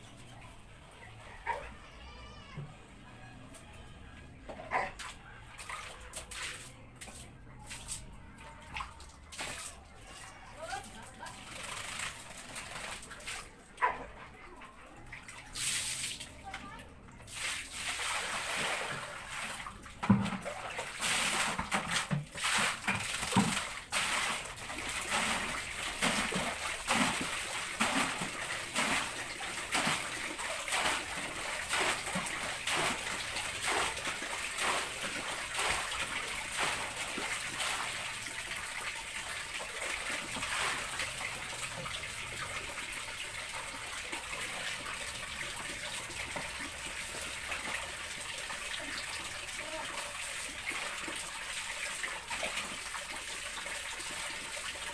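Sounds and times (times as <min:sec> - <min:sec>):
water splashing on dogs and tiles: 0:04.7 - 0:54.9.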